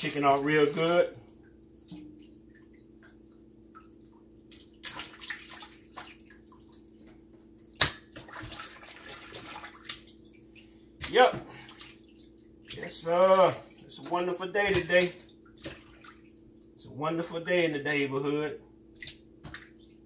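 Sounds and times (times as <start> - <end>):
water splashing in sink: 0.0 - 16.7, 19.0 - 20.0.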